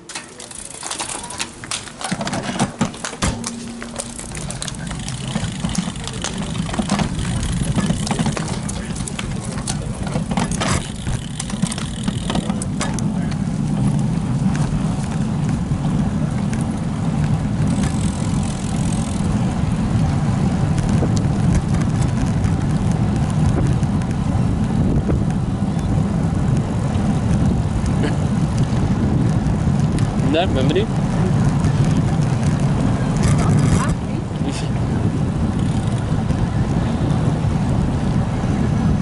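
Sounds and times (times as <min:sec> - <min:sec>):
wind rumble on microphone: 0:01.6 - 0:39.0.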